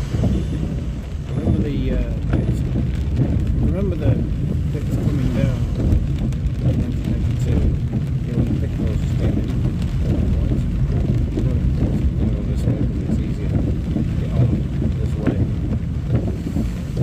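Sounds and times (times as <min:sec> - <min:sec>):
car engine running: 0:00.0 - 0:17.0
heavy rain on windscreen: 0:00.0 - 0:17.0
tyres on wet tarmac: 0:00.0 - 0:17.0.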